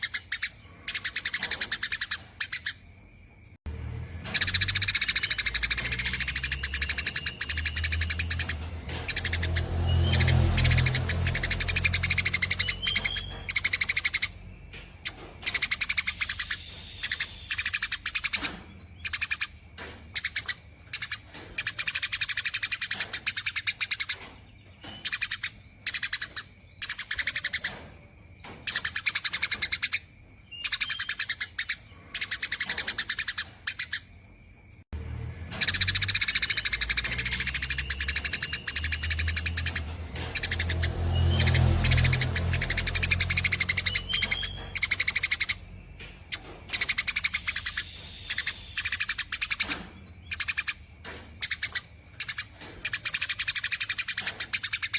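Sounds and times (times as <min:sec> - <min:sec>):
sparrows chattering trills: 0:00.0 - 0:54.9.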